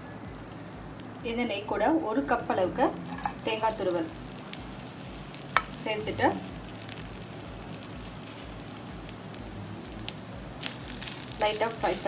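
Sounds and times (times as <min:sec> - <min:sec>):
coconut sizzling in a pan: 0:00.0 - 0:12.0.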